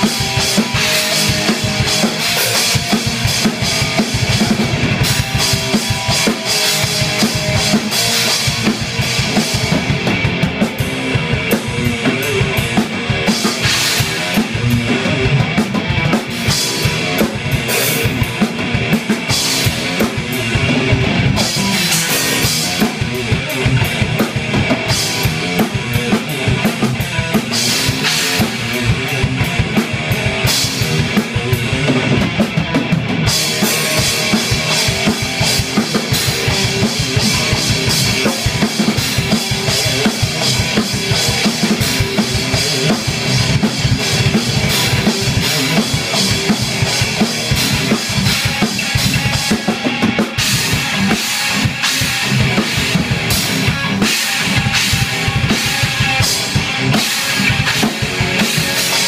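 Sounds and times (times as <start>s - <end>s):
drum kit rock beat: 0.0s - 59.0s
electric guitar chords: 0.0s - 59.0s.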